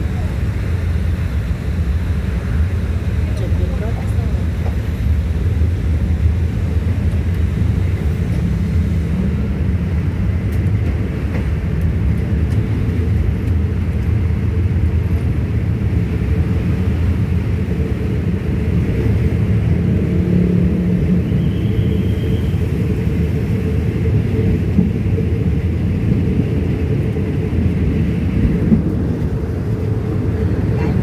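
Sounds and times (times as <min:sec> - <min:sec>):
train rumbling along track: 0:00.0 - 0:31.0.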